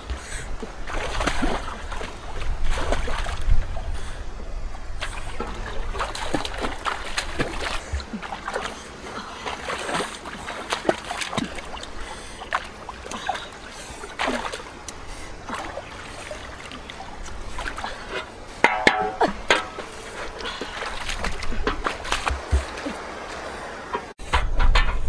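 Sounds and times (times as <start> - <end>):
water splashing: 0.0 - 24.2.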